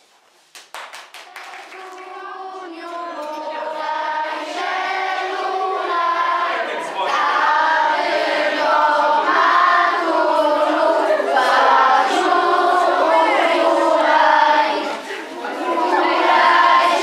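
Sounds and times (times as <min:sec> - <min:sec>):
children and adults singing together: 0:01.3 - 0:17.0.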